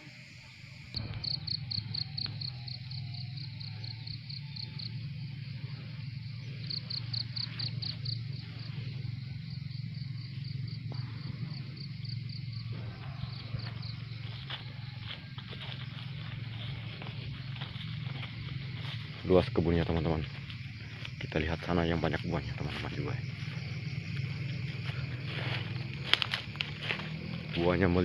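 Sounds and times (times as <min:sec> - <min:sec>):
insect chirping: 0:00.0 - 0:28.0
steady low hum: 0:00.0 - 0:28.0.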